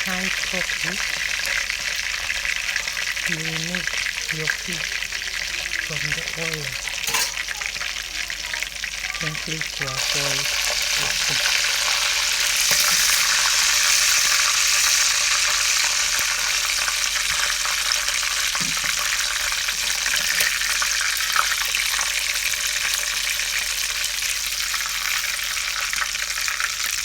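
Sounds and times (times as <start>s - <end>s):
oil sizzling in a pot: 0.0s - 27.0s.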